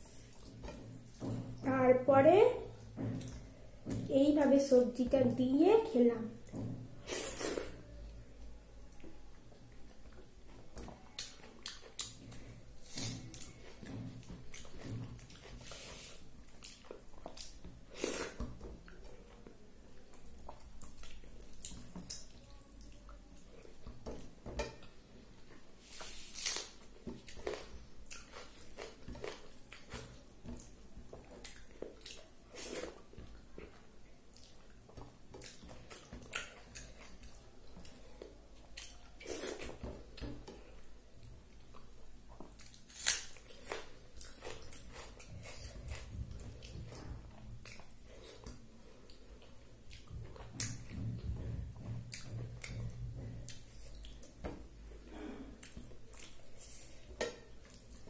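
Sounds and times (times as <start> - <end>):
person chewing with mouth smacks: 8.9 - 24.3, 25.9 - 51.0, 51.8 - 58.0.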